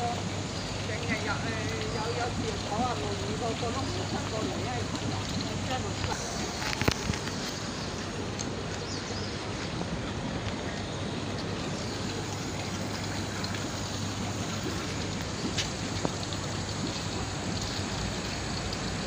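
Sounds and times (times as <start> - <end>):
fountain water splashing: 0.0 - 19.0.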